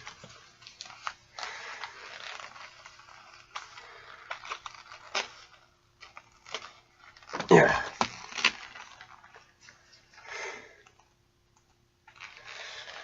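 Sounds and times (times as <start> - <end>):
packaging crinkling: 0.0 - 11.2, 12.0 - 13.0.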